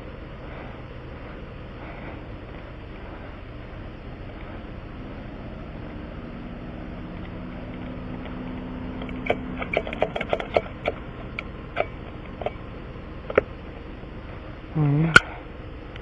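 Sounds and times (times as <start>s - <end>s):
faint pitched drone: 0.0s - 16.0s
steady low hum: 0.0s - 16.0s.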